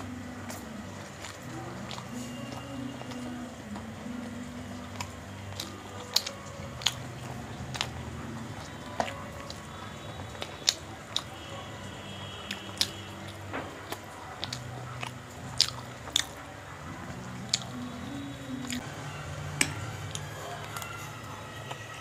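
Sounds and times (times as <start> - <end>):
chewing with wet smacks: 0.0 - 18.9, 19.6 - 22.0.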